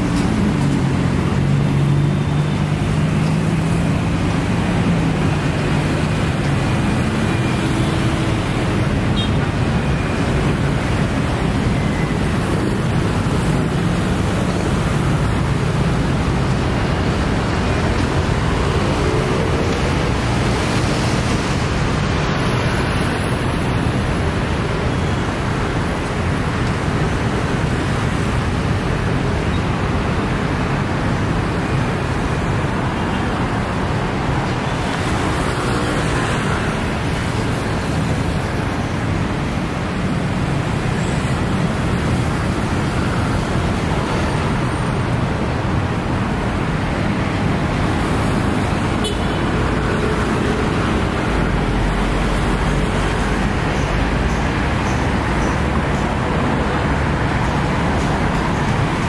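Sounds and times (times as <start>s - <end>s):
cars and buses passing: 0.0s - 59.0s.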